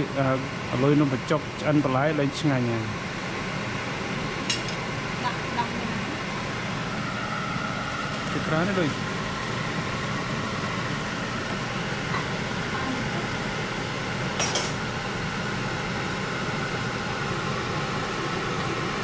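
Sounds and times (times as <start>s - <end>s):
fan-like noise: 0.0s - 19.0s.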